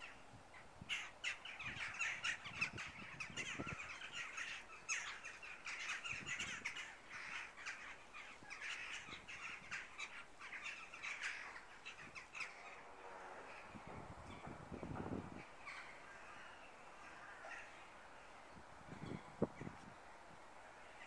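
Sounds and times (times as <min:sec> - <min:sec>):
flock of birds calling: 0:00.0 - 0:19.9.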